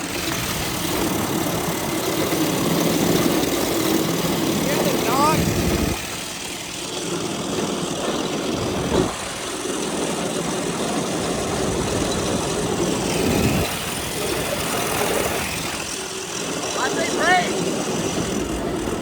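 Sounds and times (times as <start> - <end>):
go-kart engine running: 0.0 - 19.0.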